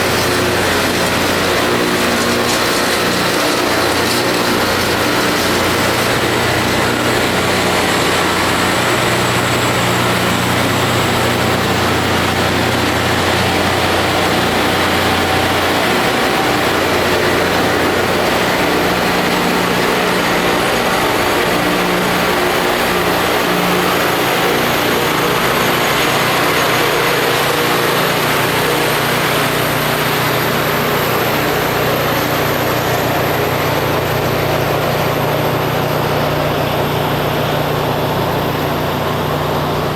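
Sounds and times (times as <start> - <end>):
diesel engines running: 0.0 - 39.9
grinding wheels hissing on rail: 0.0 - 39.9.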